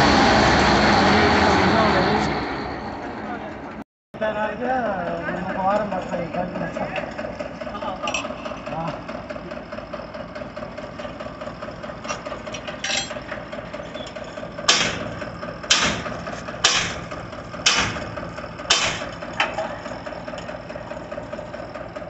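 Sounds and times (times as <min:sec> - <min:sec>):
tractor engine humming: 0:00.0 - 0:22.0.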